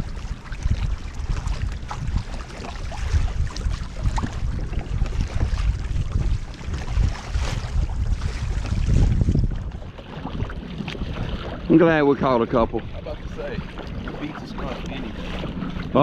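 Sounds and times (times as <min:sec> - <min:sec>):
water splashing against kayak hull: 0:00.0 - 0:16.0
wind buffeting microphone: 0:00.0 - 0:16.0.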